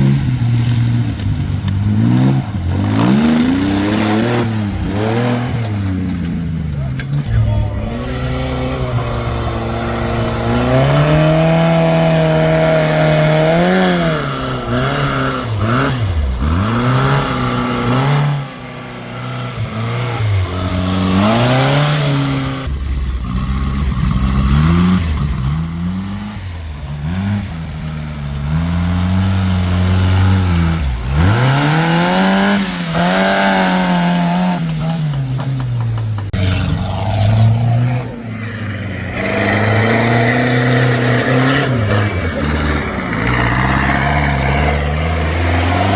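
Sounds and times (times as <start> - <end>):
heavy diesel engine revving: 0.0 - 45.9.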